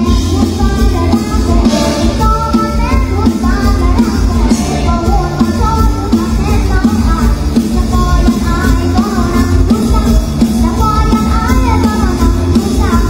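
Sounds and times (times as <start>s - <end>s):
live band music with bass beat: 0.0s - 13.0s.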